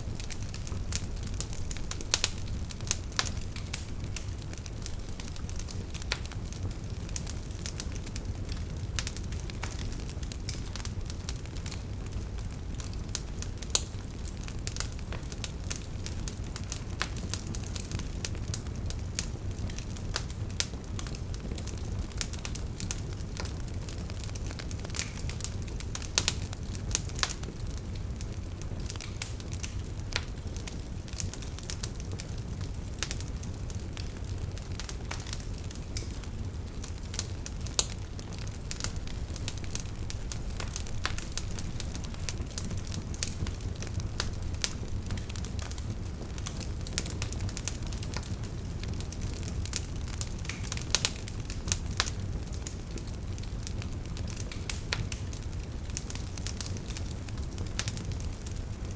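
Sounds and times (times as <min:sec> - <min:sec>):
firewood crackling and popping: 0:00.0 - 0:58.9
low rumble of flames: 0:00.0 - 0:58.9.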